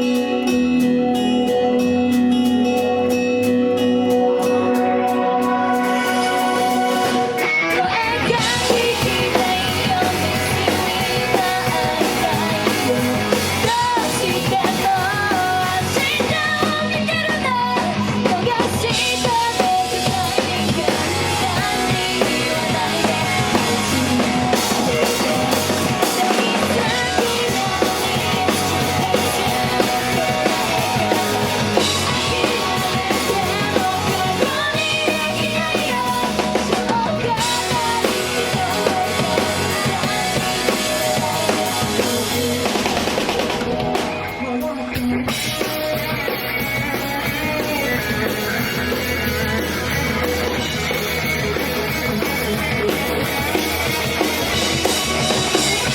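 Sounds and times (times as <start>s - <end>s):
rock pop song over sound system: 0.0s - 55.9s.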